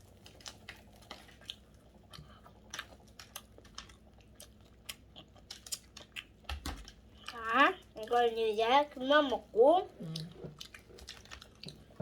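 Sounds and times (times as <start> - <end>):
person chewing crusty bread: 0.0 - 8.3, 9.9 - 12.0.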